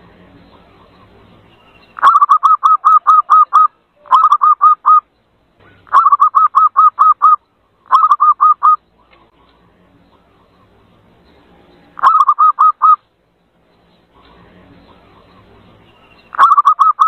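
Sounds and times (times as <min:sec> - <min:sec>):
dove calling in clipped notes: 0:00.5 - 0:13.2, 0:13.8 - 0:17.0.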